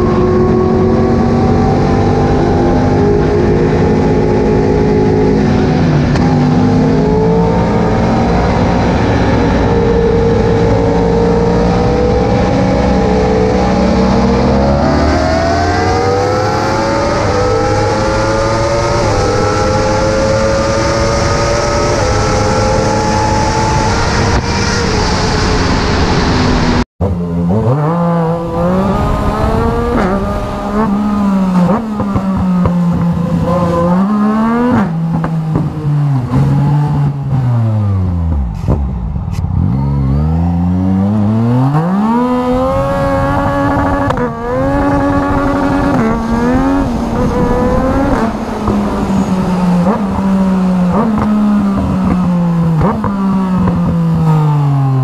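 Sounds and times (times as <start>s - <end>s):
motorcycle engine revving: 0.0s - 55.0s
motorcycles passing at speed: 0.0s - 55.0s.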